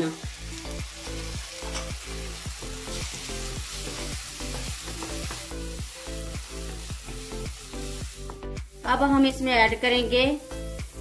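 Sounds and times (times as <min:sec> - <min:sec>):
background music with steady beat: 0:00.0 - 0:11.0
onions sizzling in hot oil: 0:00.0 - 0:11.0.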